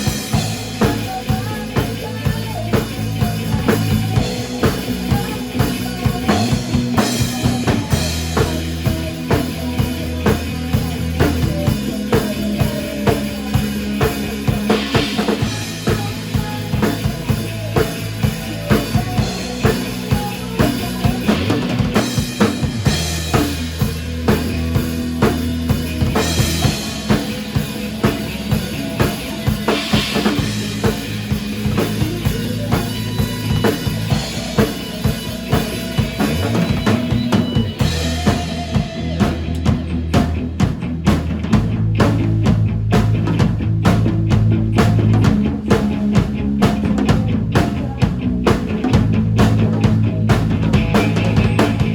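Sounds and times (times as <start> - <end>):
drum kit beat: 0.0 - 51.9
sustained bass notes: 0.0 - 51.9.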